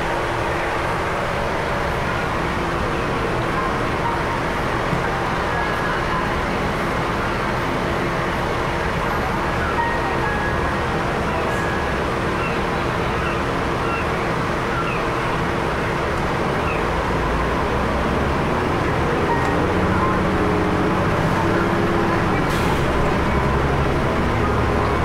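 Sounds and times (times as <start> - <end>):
bus engine and tyres droning: 0.0 - 25.0.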